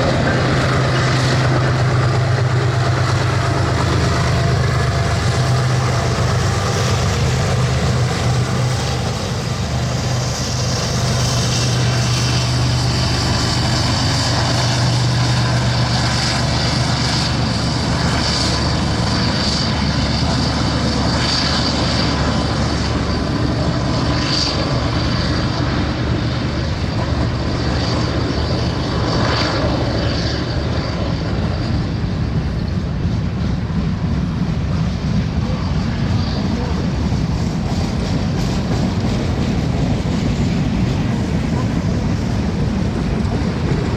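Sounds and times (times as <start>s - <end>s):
locomotive engine drone: 0.0s - 43.9s.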